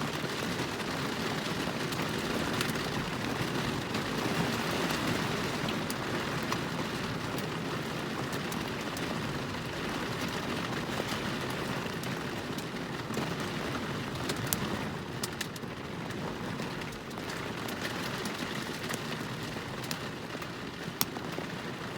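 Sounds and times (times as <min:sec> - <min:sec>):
rain falling: 0:00.1 - 0:21.9.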